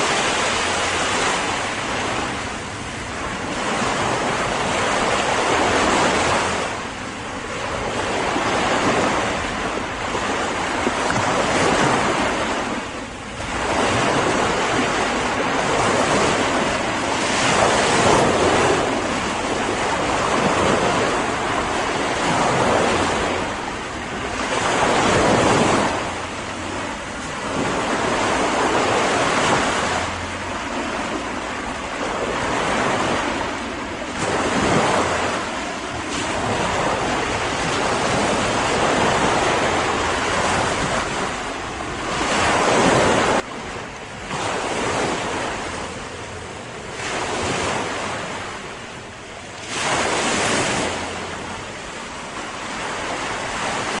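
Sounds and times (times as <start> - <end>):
waves breaking and washing ashore: 0.0 - 54.0.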